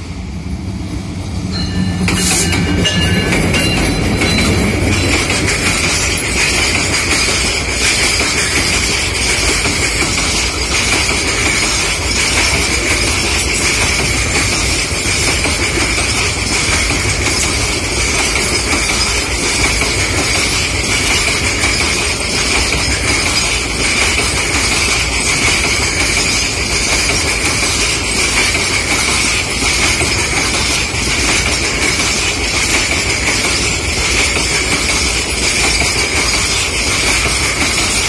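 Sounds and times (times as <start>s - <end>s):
wheels rumbling on rails: 0.0s - 38.0s
clicking over rail joints: 2.0s - 38.0s.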